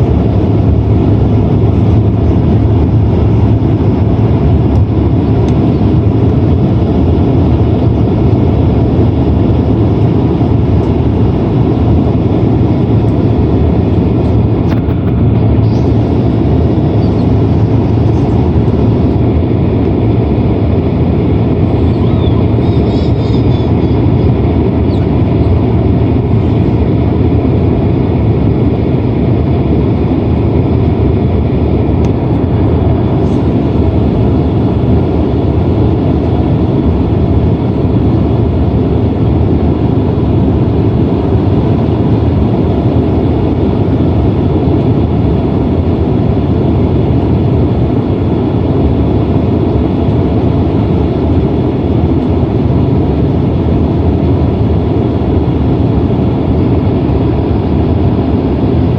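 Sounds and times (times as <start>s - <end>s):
airliner cabin roar: 0.0s - 58.9s.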